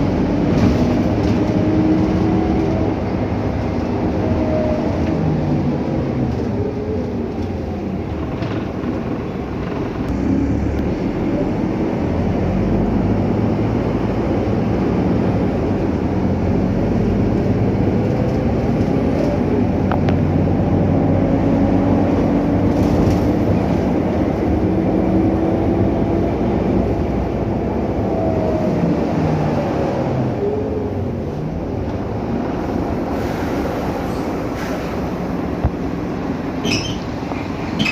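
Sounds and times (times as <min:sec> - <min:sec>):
bus engine and road drone: 0:00.0 - 0:37.9.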